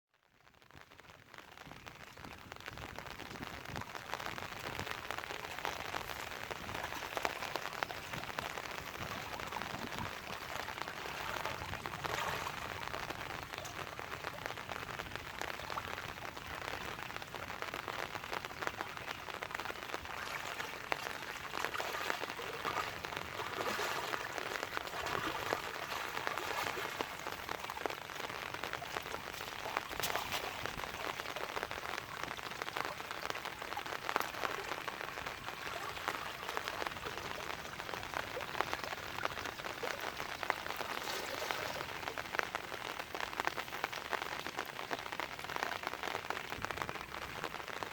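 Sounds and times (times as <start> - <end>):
steady rain hiss: 0.9 - 47.9.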